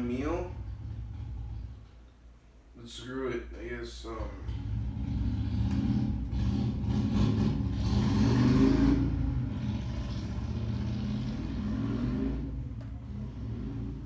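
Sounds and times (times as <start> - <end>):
vehicle engine running: 0.0 - 2.0, 4.2 - 14.0.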